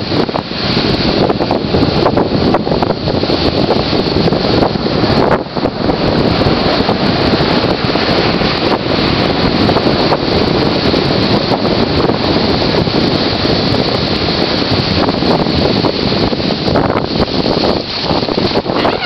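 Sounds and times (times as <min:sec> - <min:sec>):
strong wind buffeting microphone: 0:00.0 - 0:19.0
surf breaking: 0:00.0 - 0:19.0.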